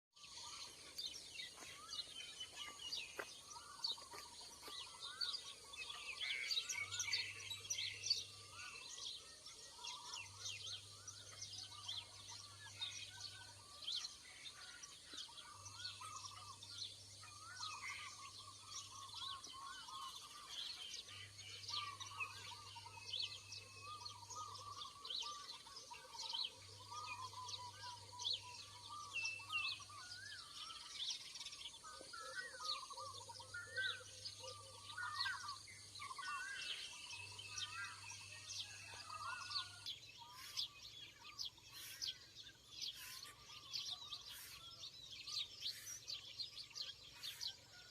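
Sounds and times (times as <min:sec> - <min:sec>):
birds chirping and calling: 0:00.2 - 0:47.9.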